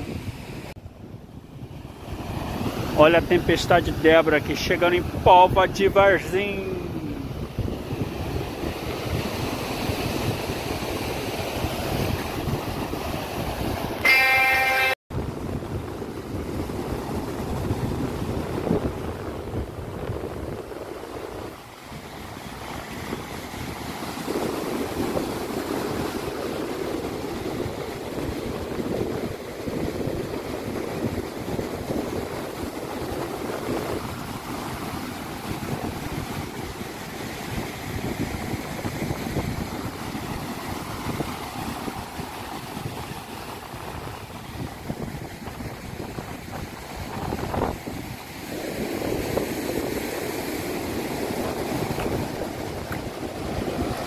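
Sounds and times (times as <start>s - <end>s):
surf breaking on beach: 1.5s - 54.0s
wind buffeting microphone: 6.8s - 14.0s, 15.1s - 54.0s.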